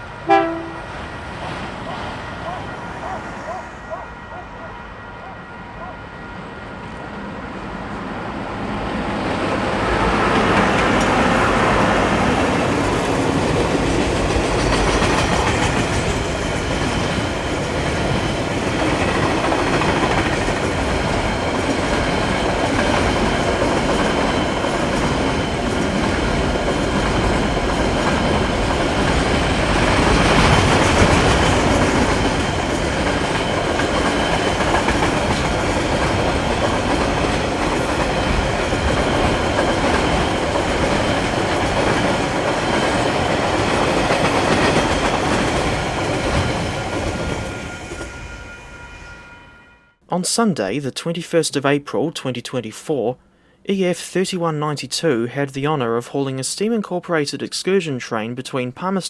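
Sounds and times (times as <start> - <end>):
freight train wheels on rails: 0.0 - 49.1.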